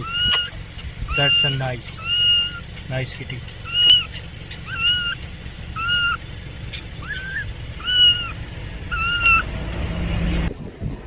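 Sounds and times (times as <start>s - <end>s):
kitten meowing: 0.0s - 2.7s, 3.6s - 9.9s
low rumble: 1.9s - 11.0s.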